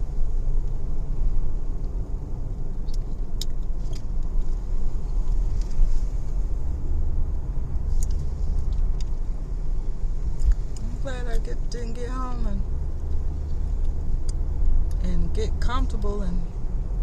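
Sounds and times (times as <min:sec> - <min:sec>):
deep rumble inside a car: 0:00.0 - 0:17.0.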